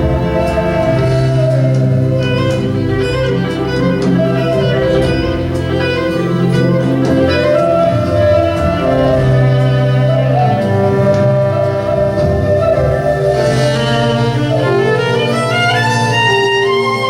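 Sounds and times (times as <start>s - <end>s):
fiddle melody: 0.0s - 17.0s
low accompaniment: 0.0s - 17.0s.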